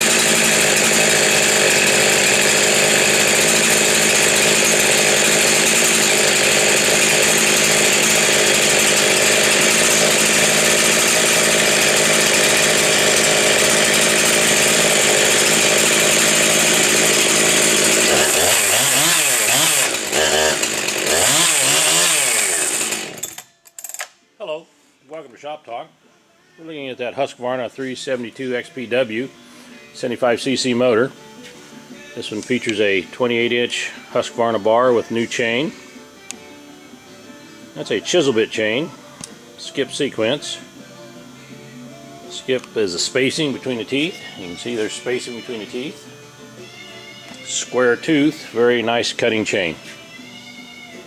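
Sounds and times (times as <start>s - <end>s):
chainsaw running: 0.0s - 24.1s, 27.1s - 51.0s.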